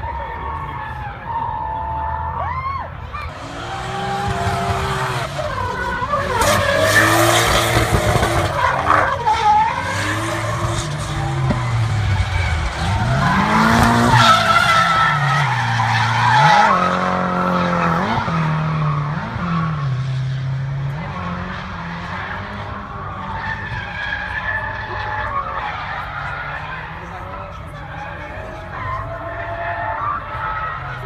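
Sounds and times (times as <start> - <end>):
tyres screeching and skidding: 0.0 - 31.0
car engines revving hard: 3.1 - 31.0.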